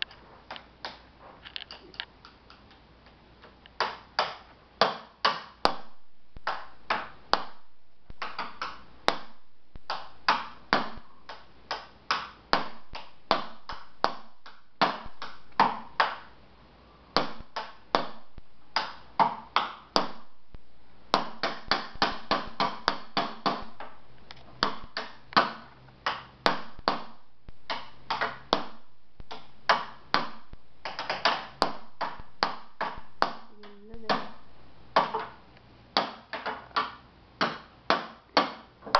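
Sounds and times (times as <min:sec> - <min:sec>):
stick drumming on wooden boxes: 0:01.7 - 0:16.3, 0:17.1 - 0:20.4, 0:21.1 - 0:38.9.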